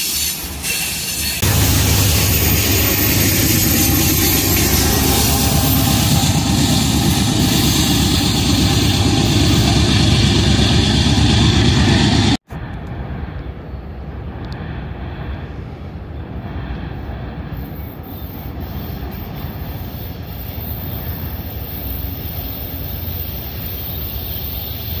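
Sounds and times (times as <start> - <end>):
diesel locomotive engine running: 0.0 - 25.0
freight train passing: 0.0 - 25.0.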